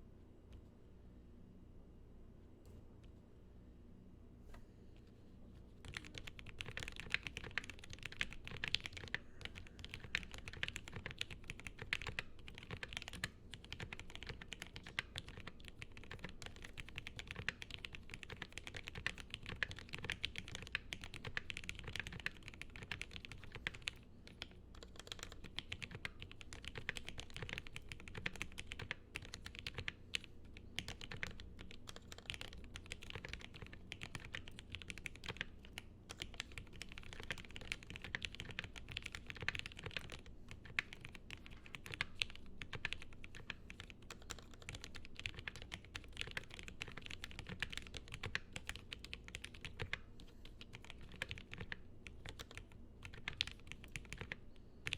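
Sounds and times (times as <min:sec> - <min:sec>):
fast typing on mechanical keyboard: 0:05.8 - 0:54.9.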